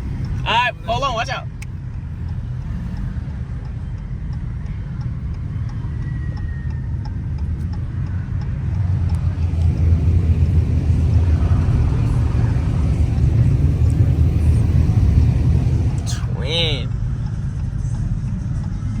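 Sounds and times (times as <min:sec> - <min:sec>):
car engine and exhaust rumble: 0:00.0 - 0:19.0.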